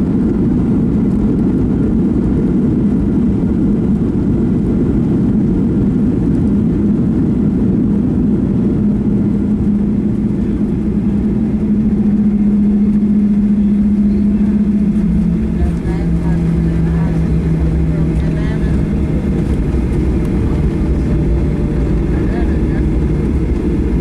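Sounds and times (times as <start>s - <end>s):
jet engine roar in cabin: 0.0s - 24.0s
low hum: 0.0s - 24.0s.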